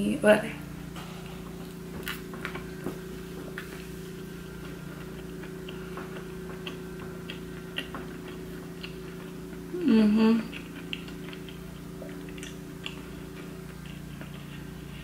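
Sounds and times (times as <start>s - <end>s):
low hum: 0.0s - 15.0s
person chewing food: 1.0s - 15.0s.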